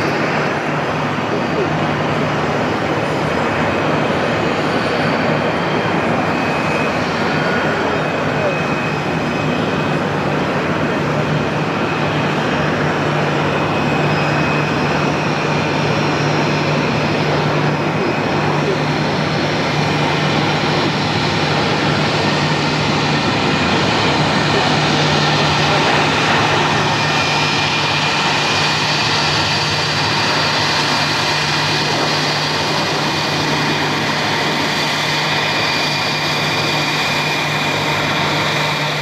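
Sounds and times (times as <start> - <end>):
jet engine roar with fan whine: 0.0 - 39.0.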